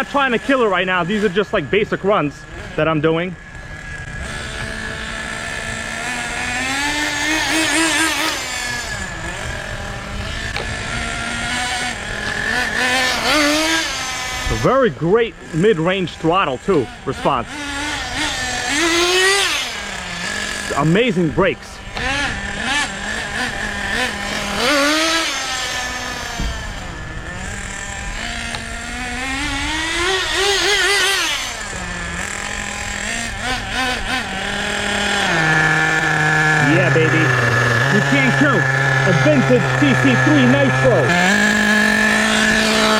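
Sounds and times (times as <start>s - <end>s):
rc car nitro engine revving: 0.0s - 42.9s.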